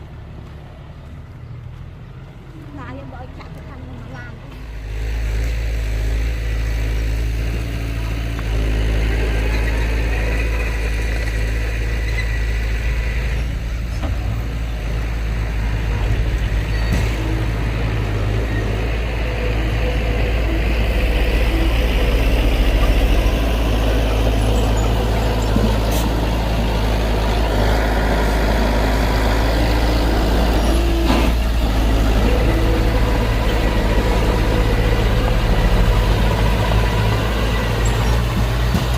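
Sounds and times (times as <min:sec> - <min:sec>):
heavy diesel engine rumbling: 0:00.0 - 0:38.9.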